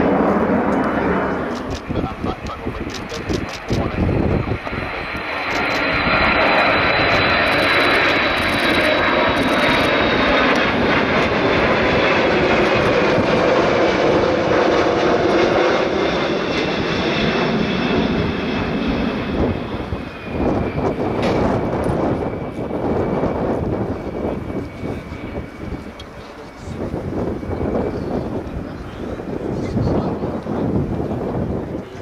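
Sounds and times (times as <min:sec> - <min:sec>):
jet engine roar with high whine: 0:00.0 - 0:32.0.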